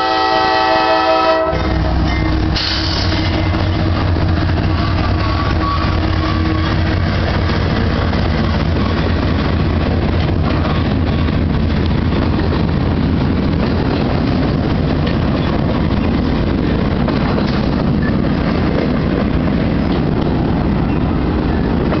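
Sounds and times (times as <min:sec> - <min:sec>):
train wheels on rail: 0:00.0 - 0:22.0.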